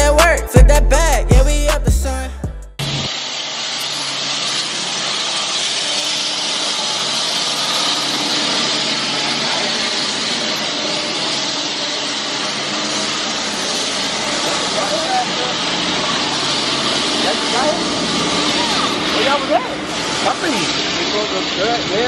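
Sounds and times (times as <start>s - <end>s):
engine running: 0.0s - 22.0s
strong even hiss: 2.8s - 22.0s.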